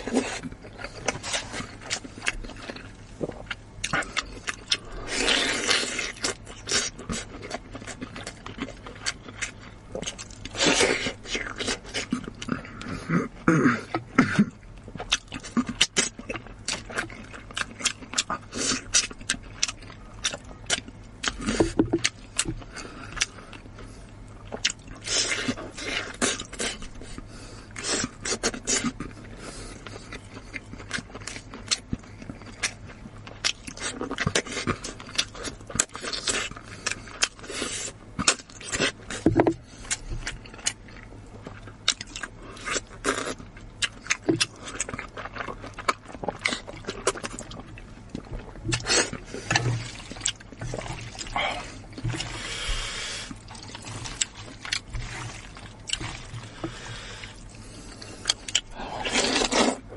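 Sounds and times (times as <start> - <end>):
person chewing and gnawing meat: 0.0 - 59.9.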